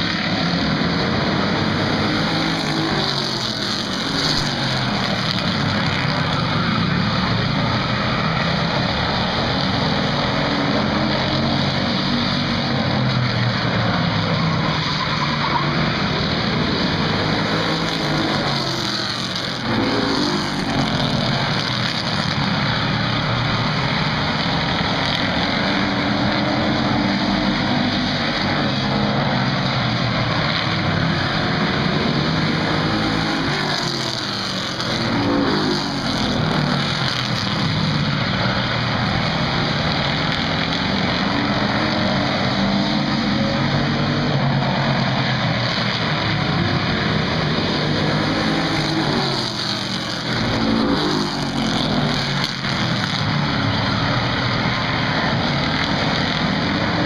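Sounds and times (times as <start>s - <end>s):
race car engines droning: 0.0s - 57.0s.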